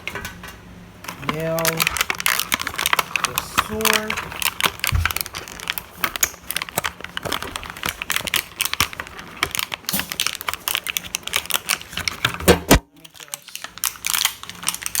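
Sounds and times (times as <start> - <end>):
plastic packaging crinkling: 1.0 - 15.0.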